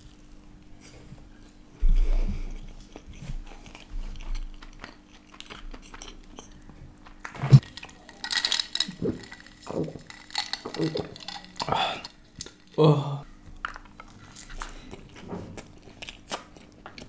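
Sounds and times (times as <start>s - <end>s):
chewing and mouth sounds: 2.0s - 12.8s, 13.5s - 17.0s.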